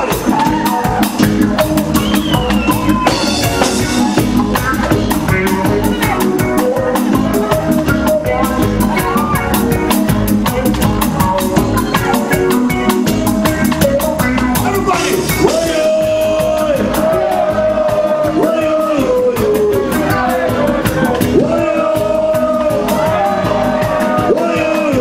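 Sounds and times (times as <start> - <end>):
bass guitar: 0.0 - 25.0
electric guitar: 0.0 - 25.0
person singing: 0.0 - 25.0
reggae drum kit: 0.0 - 25.0.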